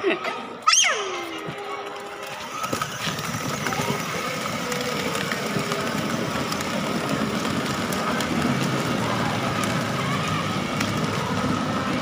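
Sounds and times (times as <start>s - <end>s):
plastic wheels rumbling on brick: 1.5s - 12.0s.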